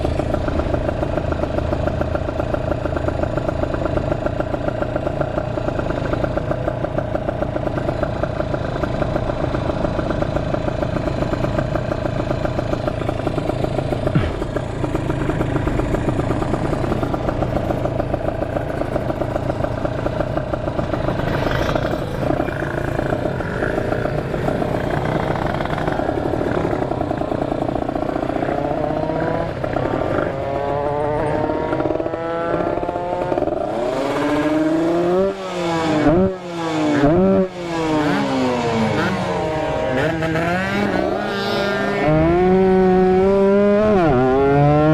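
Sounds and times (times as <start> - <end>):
two-stroke motorcycle engine revving: 0.0 - 44.9.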